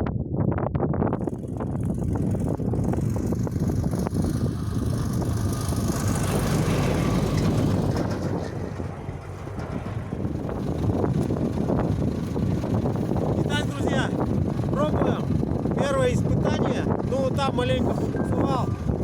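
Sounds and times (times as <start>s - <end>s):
truck engine running under load: 1.2s - 19.0s.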